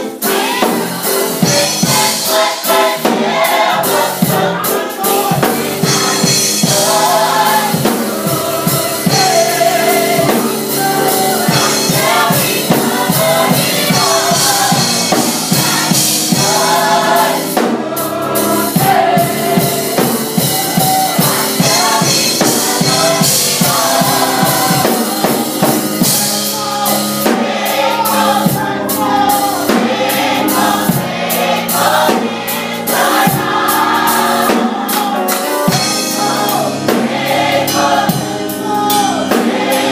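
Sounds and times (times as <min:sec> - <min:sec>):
drum kit and band: 0:00.0 - 0:39.9
gospel choir singing: 0:00.0 - 0:39.9.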